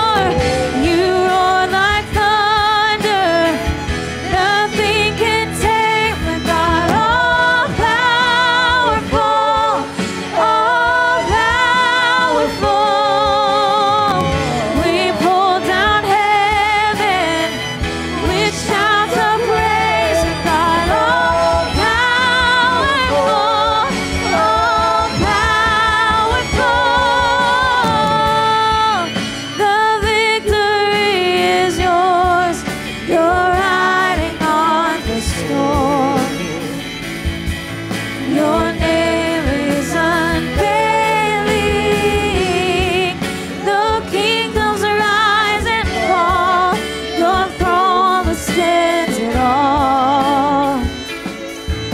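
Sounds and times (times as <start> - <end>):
man and women singing: 0.0 - 37.0, 38.2 - 51.0
musical accompaniment: 0.0 - 51.9.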